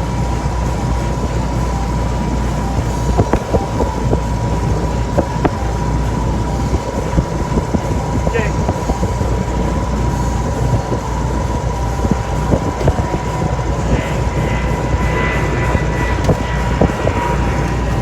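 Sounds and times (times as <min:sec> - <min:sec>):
boat low rumble: 0:00.0 - 0:18.0
constant high whine: 0:00.0 - 0:18.0.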